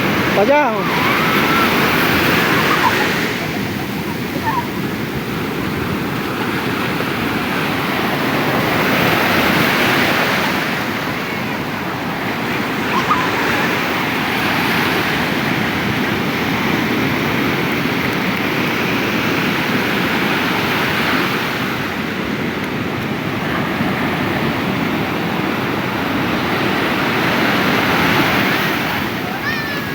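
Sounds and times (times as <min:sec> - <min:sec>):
sea surf breaking on beach: 0:00.0 - 0:29.9.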